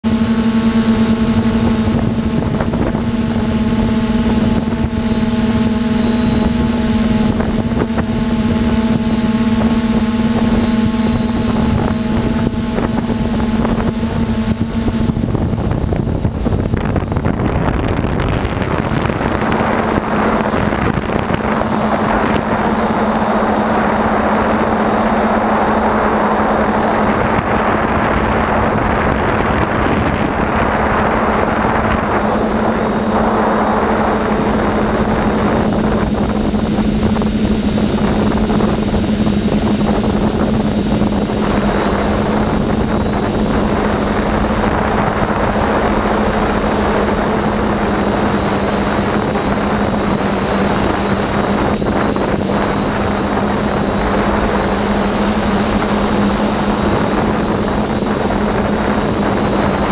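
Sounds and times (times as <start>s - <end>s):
quadcopter motors humming: 0.0s - 59.9s
wind noise rushing: 0.0s - 59.9s.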